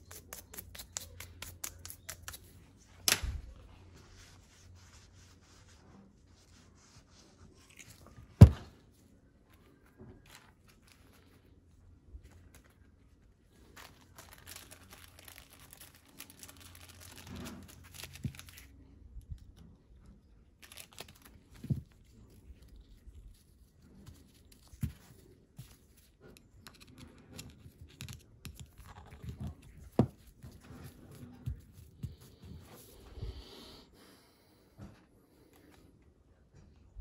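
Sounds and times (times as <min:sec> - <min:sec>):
rustling and crinkling: 0:00.2 - 0:33.5.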